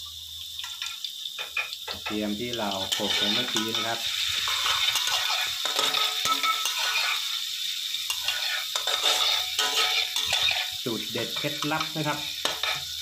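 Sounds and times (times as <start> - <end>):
garlic sizzling in hot oil: 0.0 - 13.0
metal spatula scraping wok: 0.7 - 13.0.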